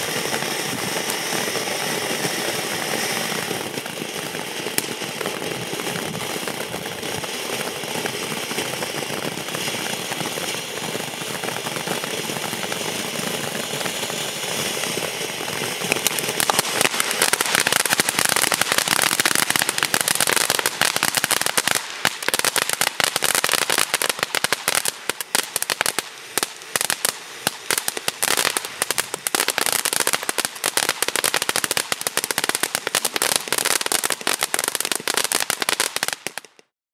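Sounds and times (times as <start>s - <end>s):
firework fountain hissing and crackling: 0.0s - 36.7s.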